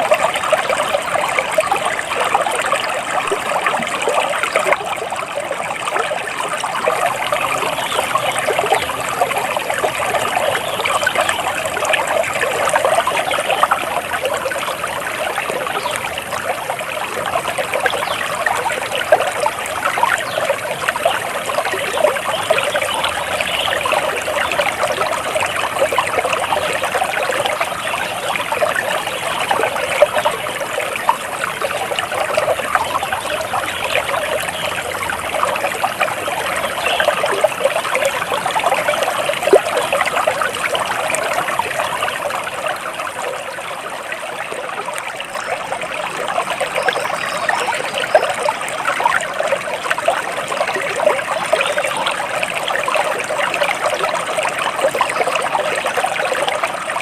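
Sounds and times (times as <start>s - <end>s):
water trickling and babbling: 0.0s - 57.0s.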